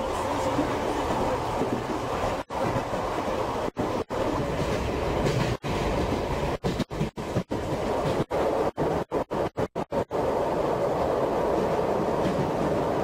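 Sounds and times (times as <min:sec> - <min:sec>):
train rumbling and rattling: 0:00.0 - 0:13.0.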